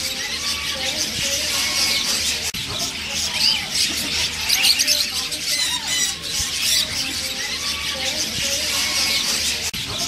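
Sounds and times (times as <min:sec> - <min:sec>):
parrots chattering and squawking: 0:00.0 - 0:10.0.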